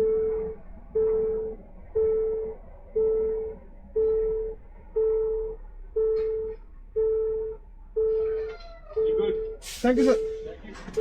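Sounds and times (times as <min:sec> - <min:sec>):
electronic warning chime beeping: 0:00.0 - 0:08.4, 0:09.0 - 0:11.0.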